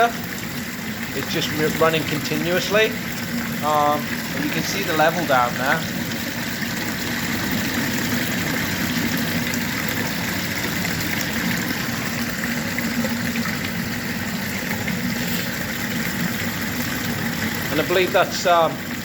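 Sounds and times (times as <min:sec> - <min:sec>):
sump pump running: 0:00.0 - 0:19.0
water churning: 0:00.0 - 0:19.0.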